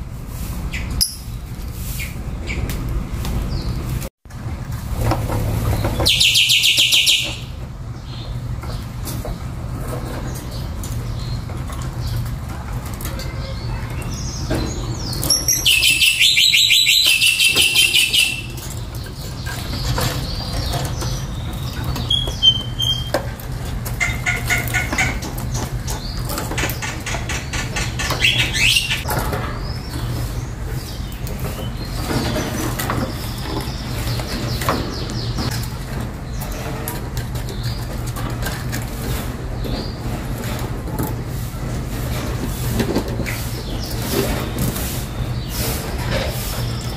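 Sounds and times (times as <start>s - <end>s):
birds chattering: 0.6s - 4.1s, 5.3s - 46.9s.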